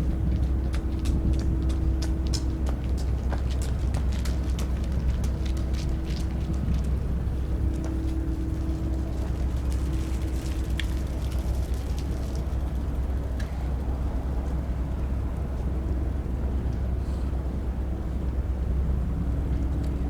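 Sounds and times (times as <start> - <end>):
airliner low rumble: 0.0 - 20.0.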